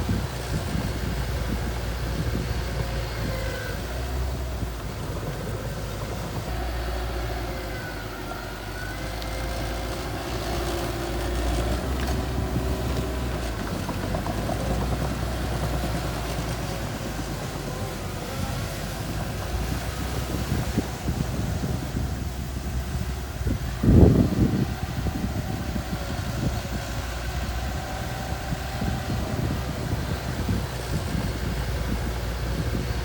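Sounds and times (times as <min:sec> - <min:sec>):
bulldozer engine rumbling: 0:00.0 - 0:33.0.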